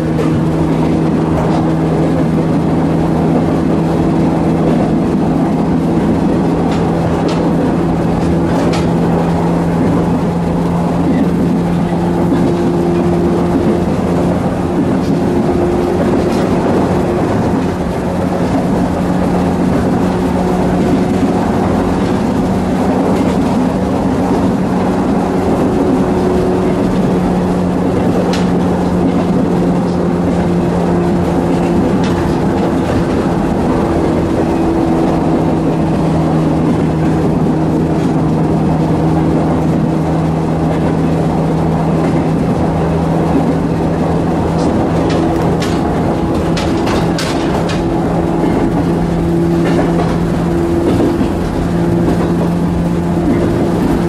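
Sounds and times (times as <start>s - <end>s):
train motor hum and whine: 0.0s - 54.0s
wheels rumbling on rail: 0.0s - 54.0s.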